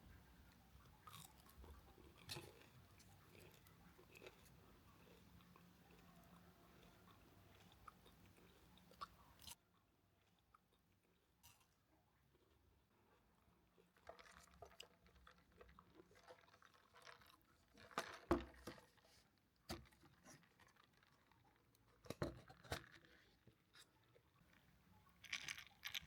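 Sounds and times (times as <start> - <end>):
close chewing and crunching: 0.0 - 26.0.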